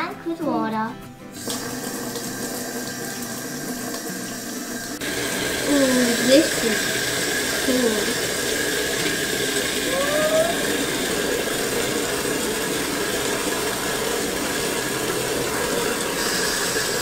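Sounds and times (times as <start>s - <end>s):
water jetting into tank: 1.4s - 17.0s.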